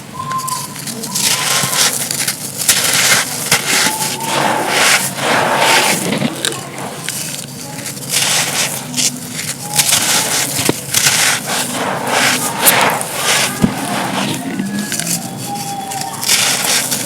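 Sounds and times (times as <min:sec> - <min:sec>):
dry material crunching: 0:00.0 - 0:17.0.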